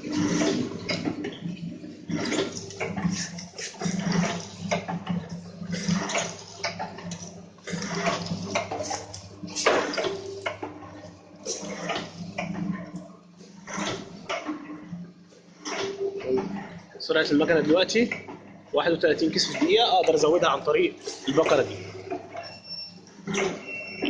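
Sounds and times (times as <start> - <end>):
packing machine motor hum: 0.0 - 24.0.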